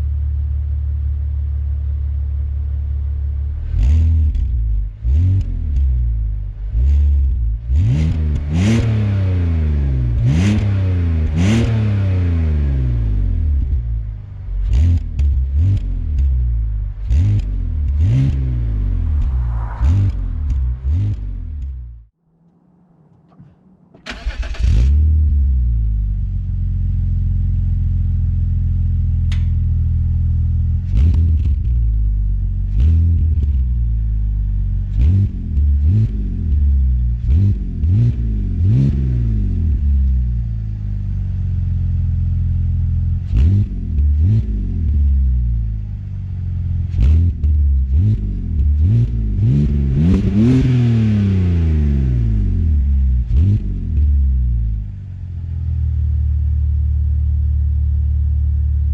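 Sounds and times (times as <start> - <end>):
car engine starting and revving: 3.5 - 29.5, 30.2 - 56.1.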